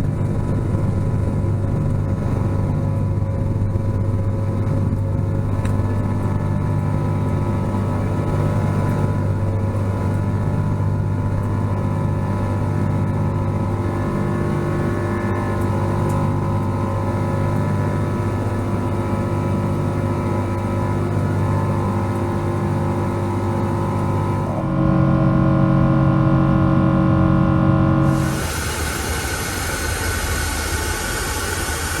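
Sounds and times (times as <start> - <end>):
jet engine drone in cabin: 0.0 - 32.0.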